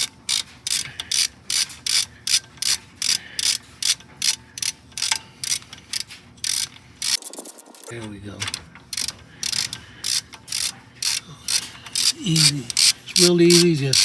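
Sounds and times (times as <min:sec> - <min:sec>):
hand ratchet clicking: 0:00.0 - 0:14.0.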